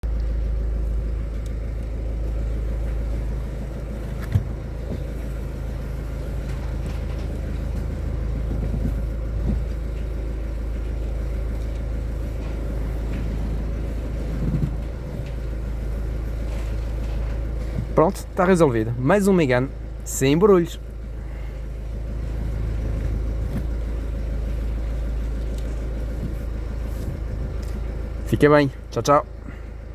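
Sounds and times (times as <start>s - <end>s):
car engine rumbling: 0.0s - 29.9s.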